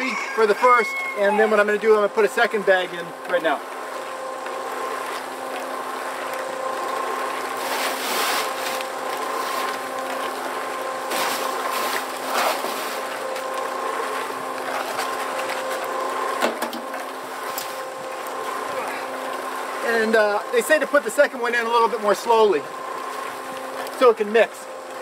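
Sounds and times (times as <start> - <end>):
concrete mixer humming: 0.0 - 25.0.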